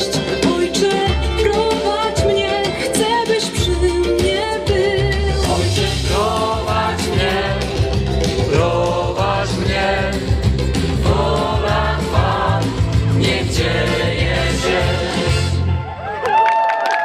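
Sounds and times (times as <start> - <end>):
live band with singers: 0.0 - 16.3.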